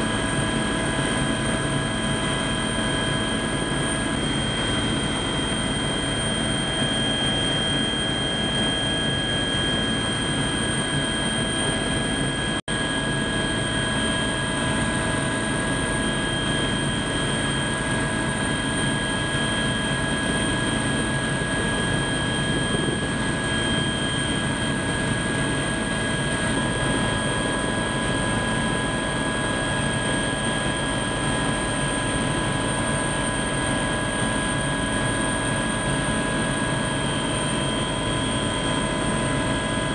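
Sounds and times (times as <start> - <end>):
helicopter engine and rotor noise: 0.0 - 39.9.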